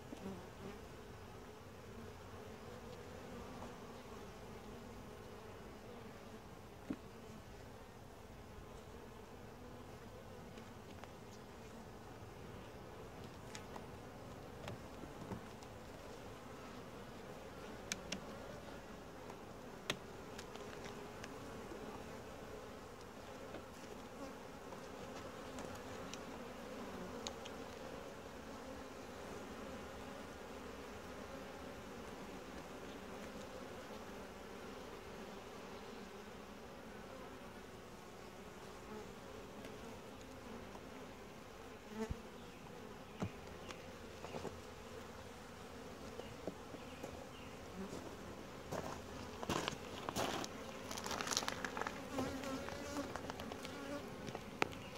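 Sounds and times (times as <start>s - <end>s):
bees humming: 0.0s - 54.9s.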